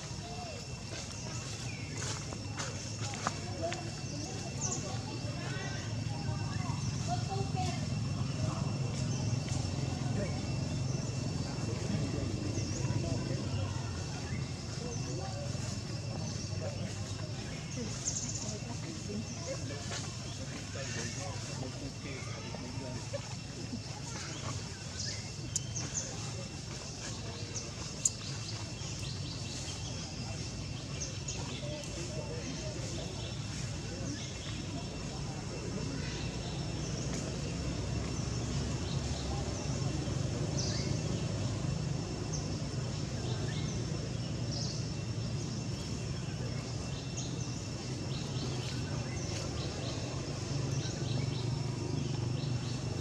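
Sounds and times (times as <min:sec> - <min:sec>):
faint insect whine: 0:00.0 - 0:53.0
high chirping calls: 0:00.1 - 0:53.0.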